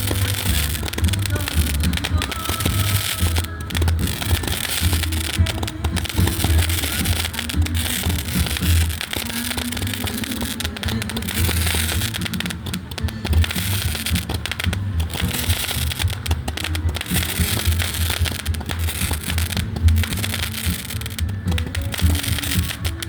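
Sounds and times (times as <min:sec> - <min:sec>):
background music with bass line: 0:00.0 - 0:23.0
firecrackers popping and crackling: 0:00.0 - 0:23.0.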